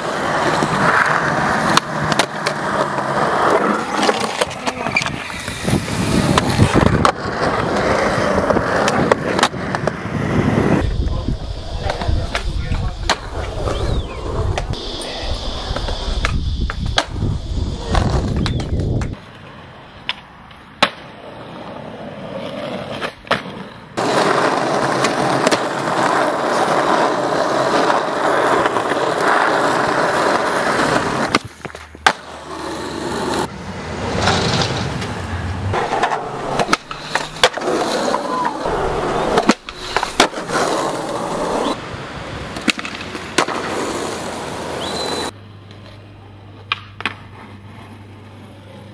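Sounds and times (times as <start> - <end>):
skateboard clacks: 0.0 - 10.1, 11.8 - 13.9, 17.8 - 21.7, 22.6 - 41.8, 42.4 - 46.0, 46.6 - 47.6
skateboard wheels rolling: 0.0 - 48.9.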